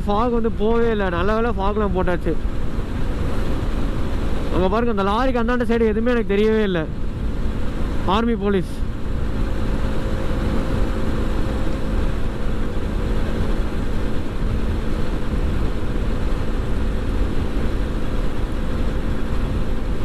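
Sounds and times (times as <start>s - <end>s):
loud rumbling noise: 0.0s - 20.0s.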